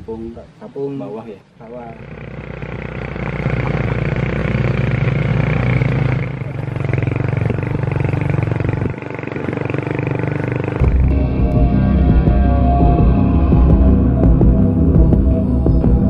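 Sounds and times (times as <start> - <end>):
motorcycle engine running: 1.8 - 16.0.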